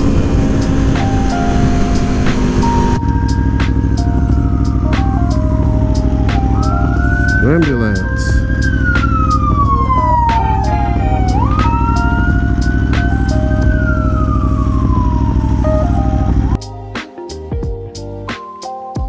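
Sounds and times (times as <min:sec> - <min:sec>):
ambulance siren wailing: 0:00.0 - 0:16.6
motorcycle engine running: 0:00.0 - 0:16.6.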